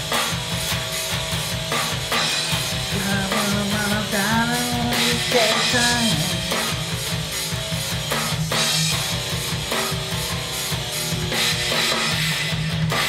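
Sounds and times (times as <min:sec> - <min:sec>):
drum beat: 0:00.0 - 0:13.0
electric guitar chords: 0:00.0 - 0:13.0.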